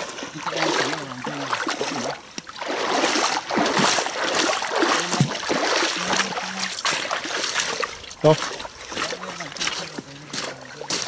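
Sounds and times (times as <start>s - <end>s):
feet wading through muddy water: 0.0s - 11.0s.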